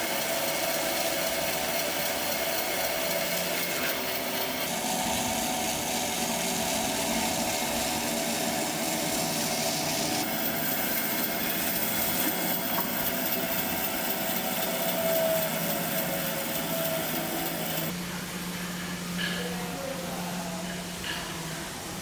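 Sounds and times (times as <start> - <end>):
power tool motor whining: 0.0 - 17.9.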